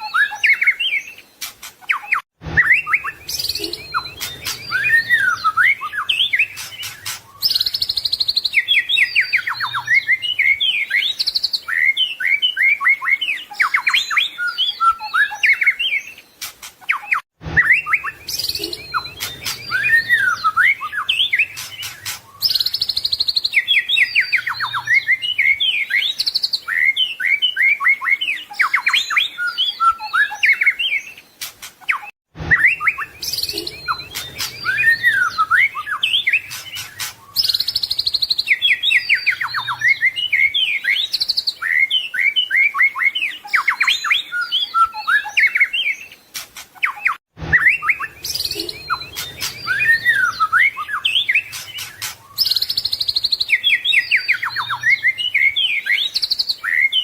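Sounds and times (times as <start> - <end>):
songbird whistles and trills: 0.0 - 57.0.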